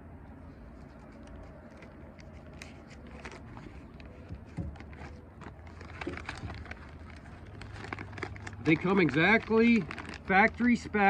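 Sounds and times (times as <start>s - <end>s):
low steady hum: 0.0s - 11.0s
paper rustling: 0.6s - 11.0s.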